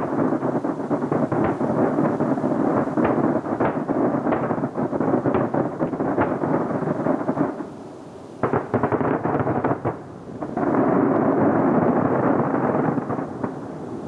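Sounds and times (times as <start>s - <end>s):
fireworks bangs: 0.0s - 7.7s, 8.4s - 14.0s
fireworks booming and crackling: 0.0s - 14.0s.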